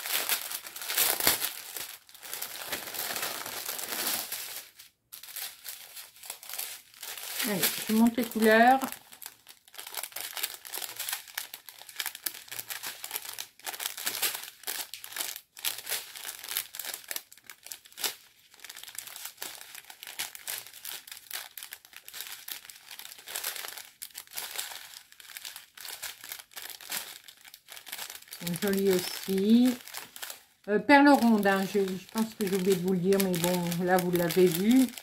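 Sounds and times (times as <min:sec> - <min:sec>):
plastic bags crinkling: 0:00.0 - 0:35.0.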